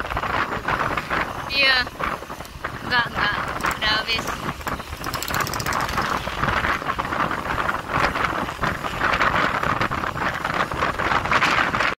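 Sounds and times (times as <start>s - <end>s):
passing traffic: 0.0s - 10.8s
wind over microphone: 0.0s - 12.0s.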